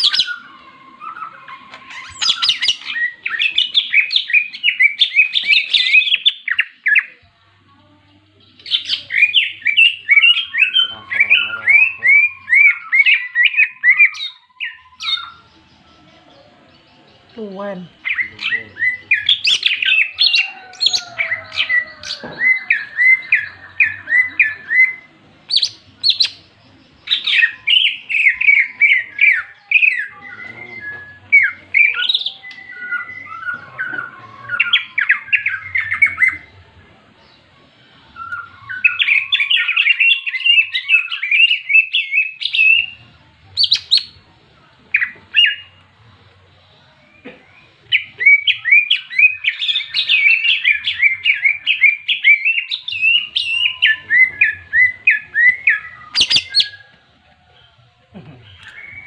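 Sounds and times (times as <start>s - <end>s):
birds chattering calls: 0.0s - 59.0s.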